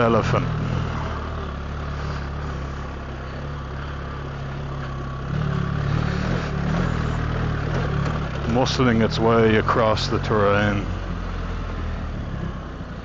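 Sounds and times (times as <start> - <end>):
motorcycle engine low drone: 0.0 - 13.0.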